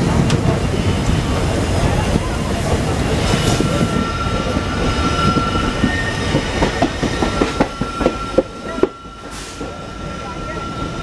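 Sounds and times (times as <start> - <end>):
train rumble on rails: 0.0 - 11.0.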